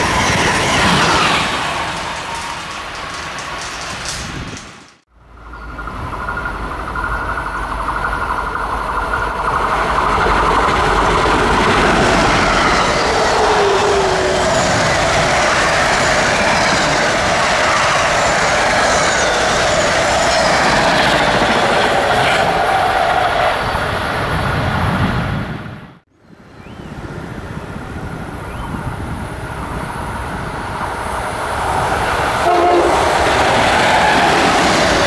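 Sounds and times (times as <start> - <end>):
train wheel and rail noise: 0.0 - 35.0.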